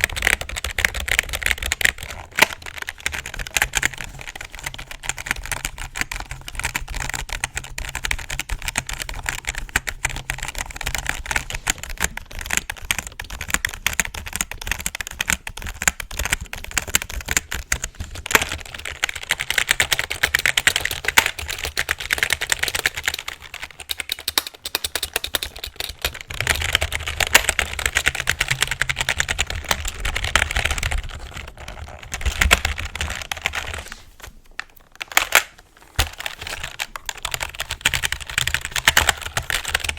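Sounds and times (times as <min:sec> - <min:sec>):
fast typing on keyboard: 0:00.0 - 0:34.0, 0:36.0 - 0:39.9.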